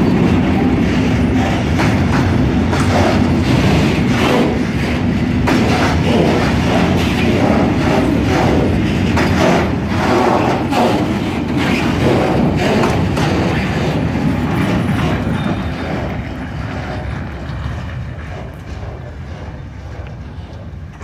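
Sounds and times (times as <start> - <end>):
freight wagons rumbling and clacking: 0.0 - 21.0.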